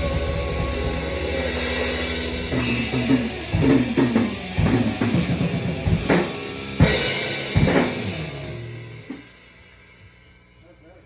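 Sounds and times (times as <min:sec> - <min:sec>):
heavy drum hits: 0:00.0 - 0:09.2
live rock band playing: 0:00.0 - 0:10.0.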